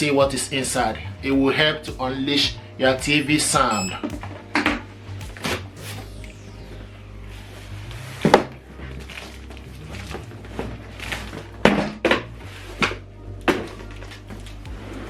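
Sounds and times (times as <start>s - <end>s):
background music with low beat: 0.0s - 15.0s.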